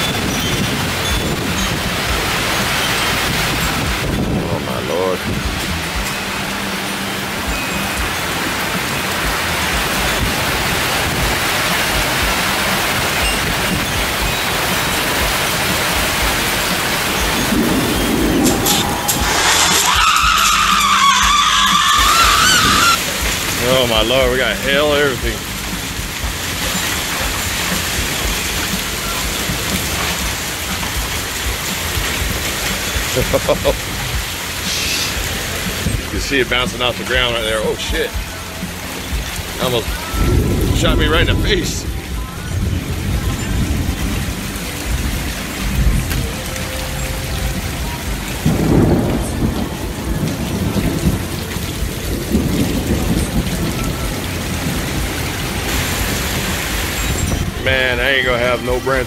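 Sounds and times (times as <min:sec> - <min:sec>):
thunder rumbling: 0:00.0 - 0:46.6, 0:47.3 - 0:59.0
hailstones ticking: 0:00.0 - 0:59.0
heavy rain hissing: 0:00.0 - 0:59.0.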